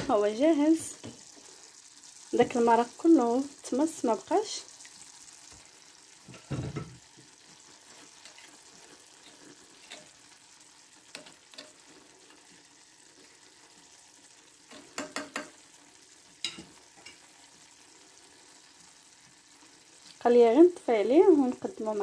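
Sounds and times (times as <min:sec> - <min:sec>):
food sizzling faintly: 0:00.0 - 0:22.0.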